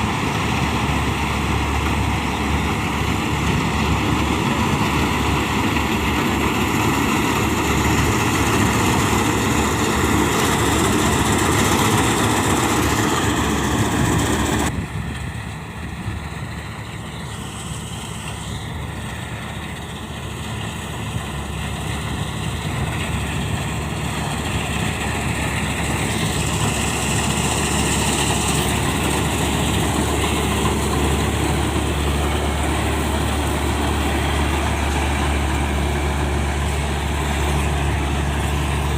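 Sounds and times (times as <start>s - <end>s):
diesel farm machinery running: 0.0s - 38.9s.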